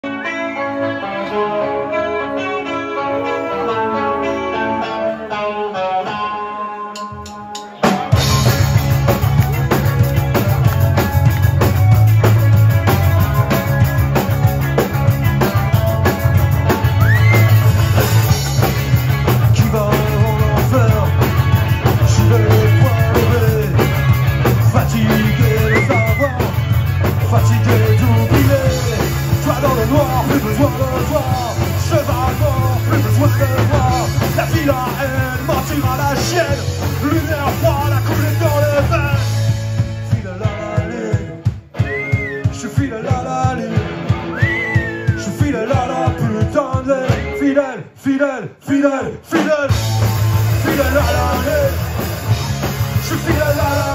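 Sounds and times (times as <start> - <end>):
man singing: 0.0 - 6.8, 7.8 - 53.9
bass guitar: 0.0 - 47.6, 49.3 - 53.9
electric guitar: 0.0 - 47.7, 49.4 - 53.9
drum kit: 6.9 - 47.5, 49.4 - 53.9.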